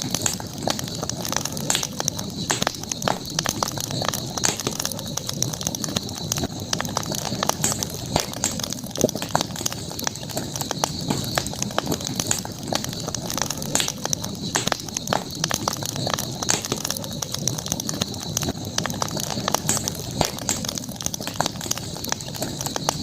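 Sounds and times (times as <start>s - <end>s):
campfire crackling and popping: 0.0s - 23.0s
high-pitched night background hum: 0.0s - 23.0s.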